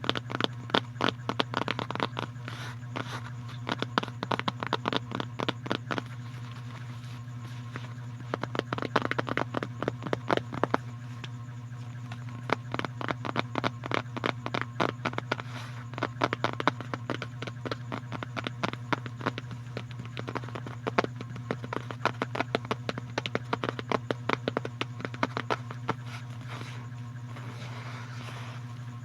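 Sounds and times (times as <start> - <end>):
rapid clicks and crackles: 0.0 - 29.0
steady low hum: 0.0 - 29.0.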